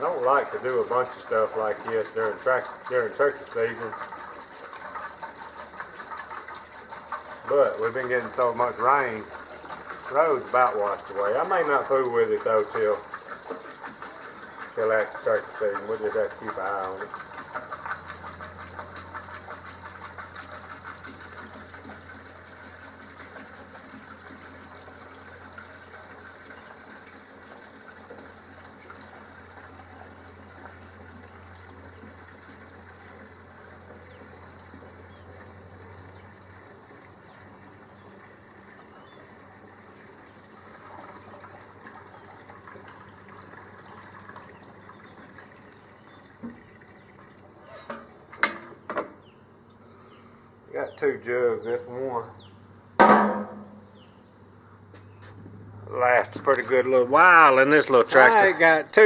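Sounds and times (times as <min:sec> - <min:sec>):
fuel pouring into a tank: 0:00.0 - 0:53.8, 0:55.8 - 0:59.0.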